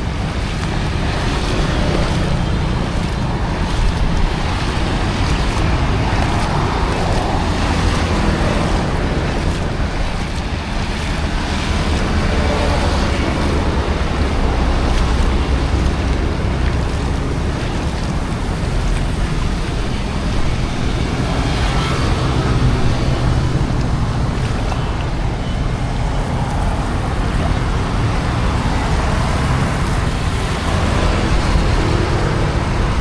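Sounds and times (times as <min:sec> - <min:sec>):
water flowing: 0:00.0 - 0:33.0
wind buffeting microphone: 0:00.0 - 0:33.0.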